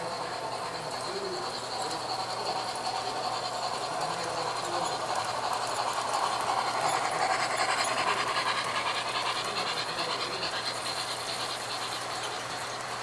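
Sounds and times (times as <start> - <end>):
model steam train running on track: 0.0 - 13.0.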